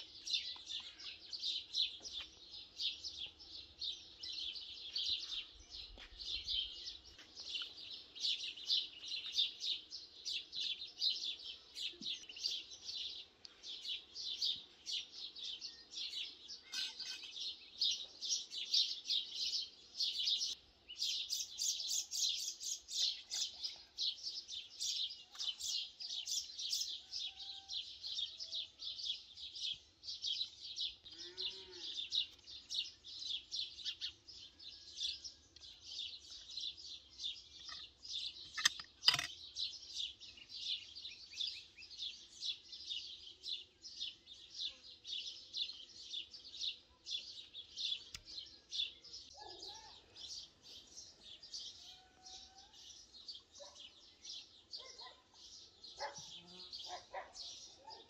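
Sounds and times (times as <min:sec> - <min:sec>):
birds chirping rapidly: 0:00.0 - 0:58.0.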